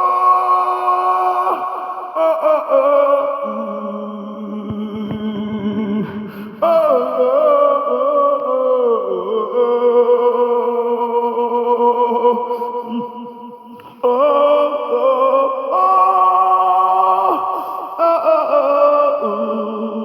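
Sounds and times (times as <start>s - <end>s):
person singing chant-like notes: 0.0s - 20.0s.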